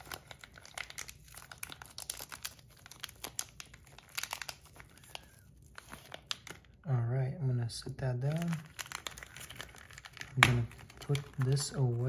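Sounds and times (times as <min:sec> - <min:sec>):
plastic bag crinkling: 0:00.0 - 0:06.8, 0:08.2 - 0:12.0.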